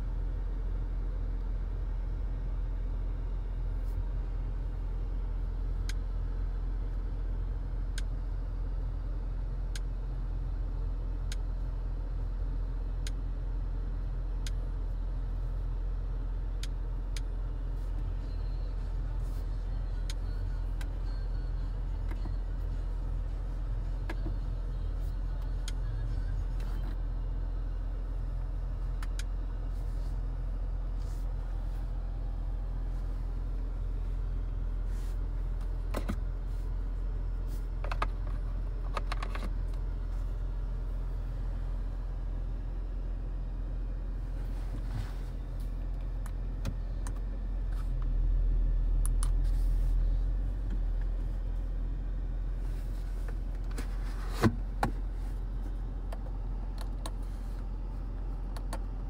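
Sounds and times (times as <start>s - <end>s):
engine and exhaust rumble: 0.0s - 59.0s.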